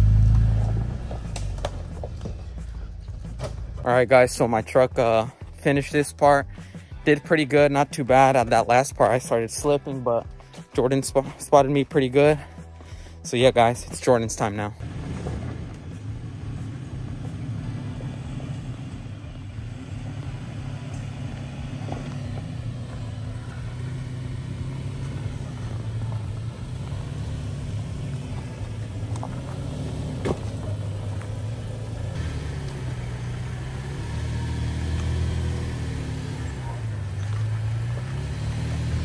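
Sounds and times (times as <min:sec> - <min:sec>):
truck engine running at low revs: 0:00.0 - 0:07.5, 0:14.8 - 0:39.0.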